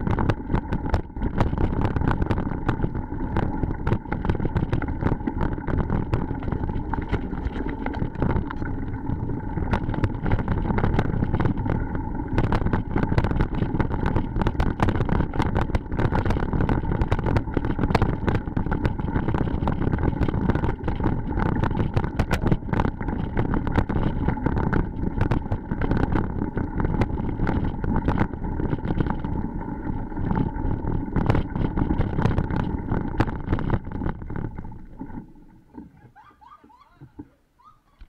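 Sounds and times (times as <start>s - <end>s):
wind on microphone: 0.0s - 35.2s
bicycle rattling over rocky road: 0.0s - 36.0s.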